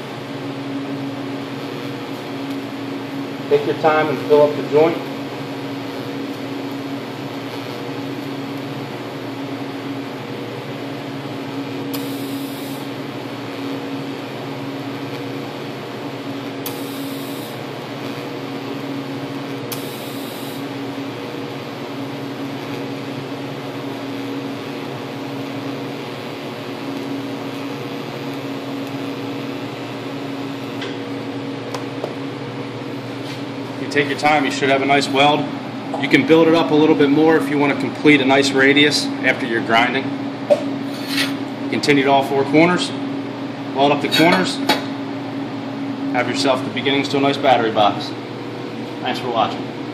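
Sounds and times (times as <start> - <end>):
welder electric hum: 0.0 - 49.9.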